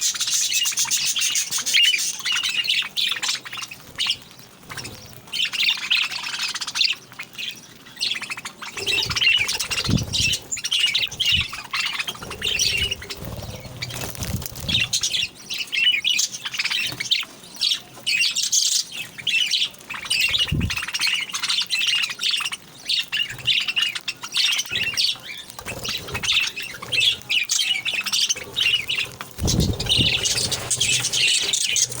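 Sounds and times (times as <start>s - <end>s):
pet birds chirping and squawking: 0.0s - 32.0s.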